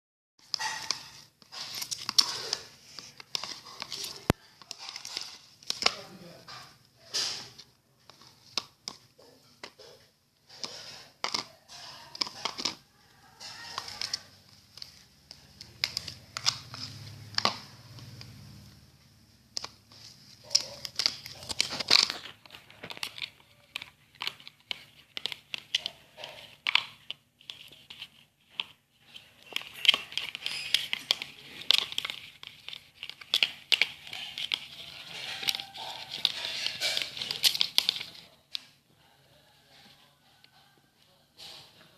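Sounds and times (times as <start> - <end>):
slime squishing and crackling: 0.4 - 18.6, 19.4 - 38.8.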